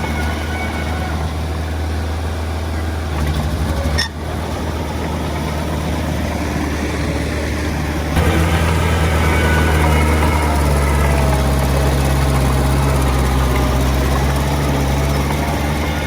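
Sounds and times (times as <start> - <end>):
diesel engine humming at low revs: 0.0 - 16.0.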